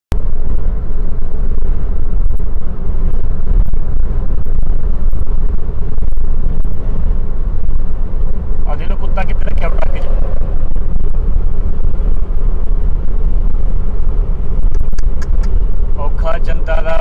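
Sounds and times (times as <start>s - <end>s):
car road and engine rumble: 0.1s - 17.0s.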